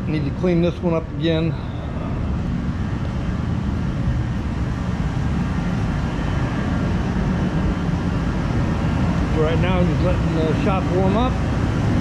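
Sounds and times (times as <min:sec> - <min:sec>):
heater rumbling and blowing: 0:00.0 - 0:12.0.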